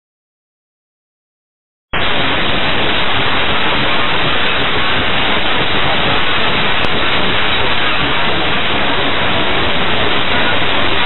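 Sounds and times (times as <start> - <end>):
radio static hiss: 2.0 - 11.0.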